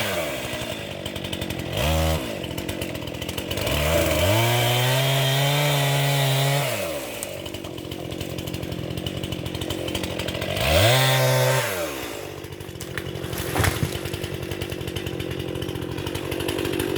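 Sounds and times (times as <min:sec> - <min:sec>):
chainsaw revving and idling: 0:00.0 - 0:16.9.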